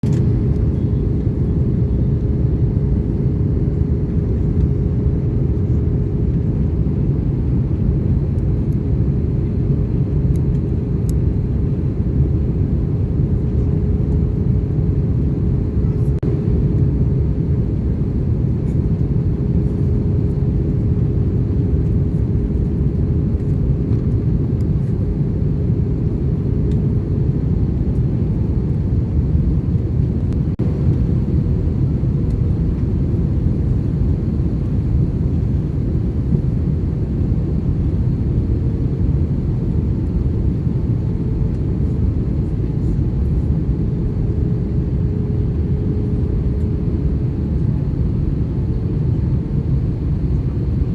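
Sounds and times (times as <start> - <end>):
airliner cabin engine rumble: 0.0 - 50.9.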